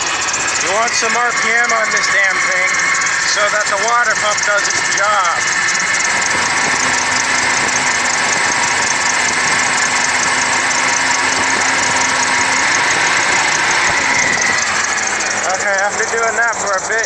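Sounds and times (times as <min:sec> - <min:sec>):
engine running at raised revs: 0:00.0 - 0:17.0.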